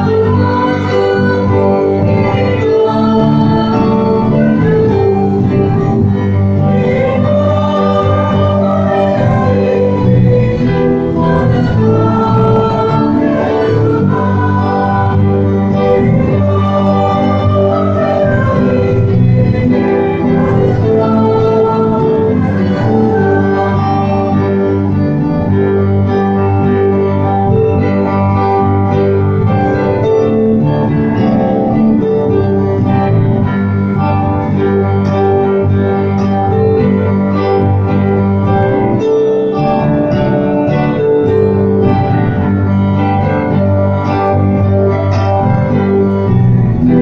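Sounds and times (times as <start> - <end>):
electronic organ playing hymn chords: 0.0 - 47.0.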